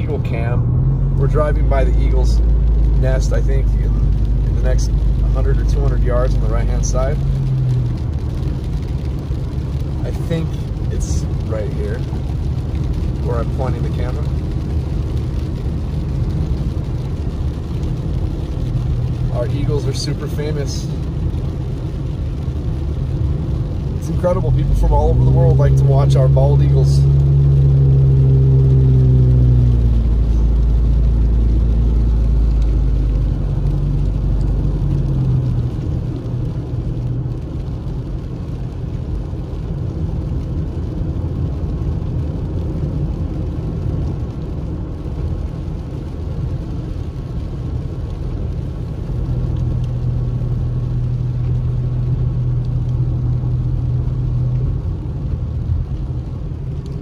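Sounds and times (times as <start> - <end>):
low engine hum: 0.0 - 57.0
tyres hissing on wet road: 0.0 - 57.0.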